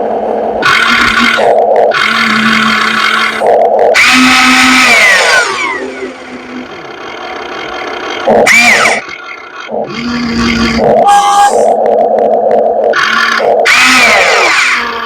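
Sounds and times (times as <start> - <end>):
hydraulic pump and motors working: 0.0 - 15.0
steady hum: 0.0 - 15.0.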